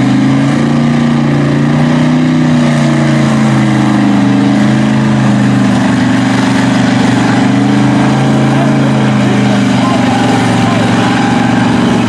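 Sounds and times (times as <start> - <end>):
truck engine running loudly: 0.0 - 12.0.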